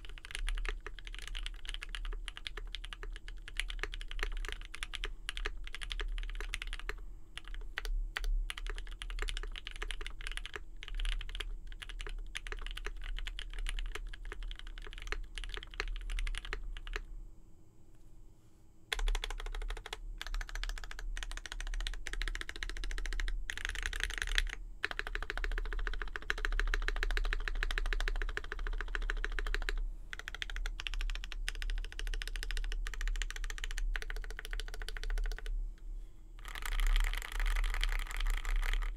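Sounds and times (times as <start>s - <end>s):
mechanical keyboard typing: 0.0s - 17.0s, 18.9s - 35.5s, 36.4s - 38.9s.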